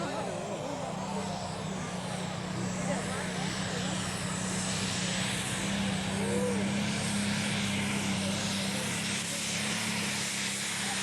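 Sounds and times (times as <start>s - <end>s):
tractor diesel engine at full load: 0.0s - 11.0s.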